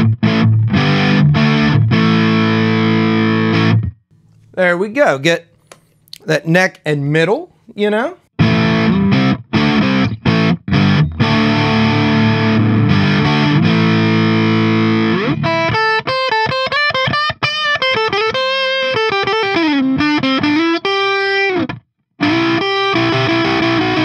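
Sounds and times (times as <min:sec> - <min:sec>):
overdriven electric guitar: 0:00.0 - 0:04.0, 0:08.4 - 0:24.0.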